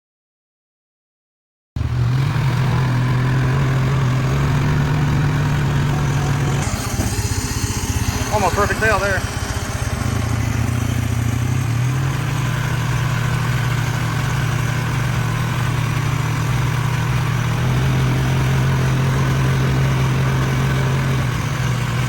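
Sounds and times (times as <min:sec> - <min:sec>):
engine running steadily: 0:01.8 - 0:22.0.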